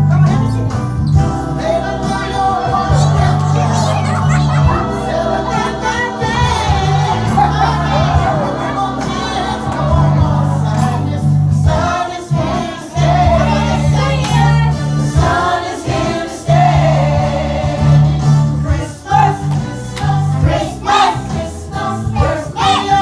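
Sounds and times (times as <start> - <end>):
group of voices singing: 0.0 - 23.0
musical accompaniment with bass: 0.0 - 23.0.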